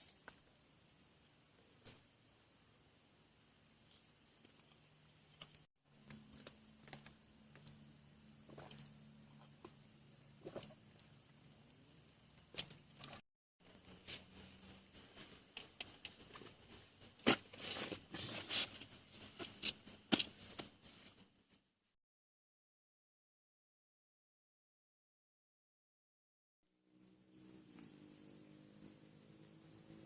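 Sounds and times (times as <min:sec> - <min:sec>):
crickets trilling: 0:00.0 - 0:21.6, 0:26.8 - 0:30.0.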